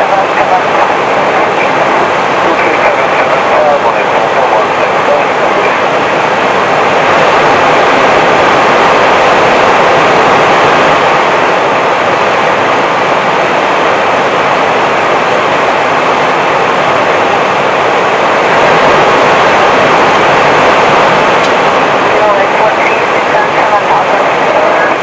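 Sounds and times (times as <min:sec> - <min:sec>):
steady rushing cockpit noise: 0:00.0 - 0:25.0.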